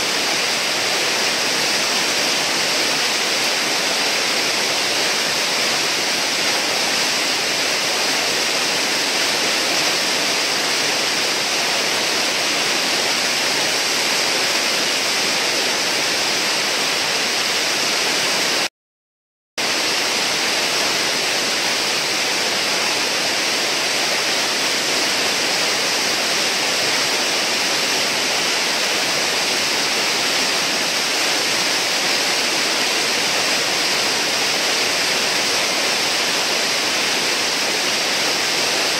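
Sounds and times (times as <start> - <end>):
whitewater churning: 0.0 - 18.7, 19.6 - 38.9.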